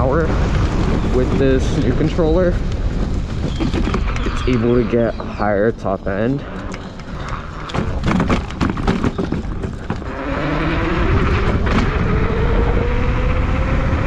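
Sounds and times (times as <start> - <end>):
bike rattling over rough ground: 0.0 - 12.8
wind noise on microphone: 0.0 - 14.0.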